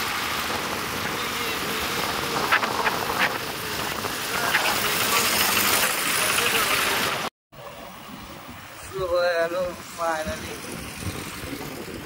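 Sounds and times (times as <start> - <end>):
wind rushing over microphone: 0.0 - 6.2, 7.0 - 12.0
road and traffic noise: 0.0 - 12.0.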